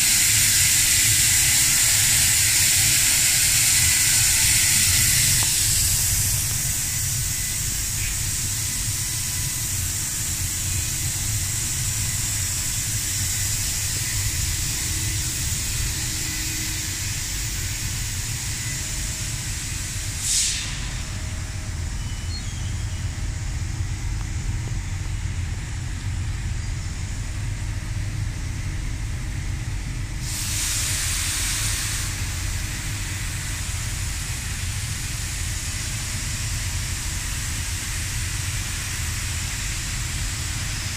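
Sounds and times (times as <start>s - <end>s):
hiss of assist gas: 0.0s - 40.9s
laser cutting machine rumble: 0.0s - 40.9s.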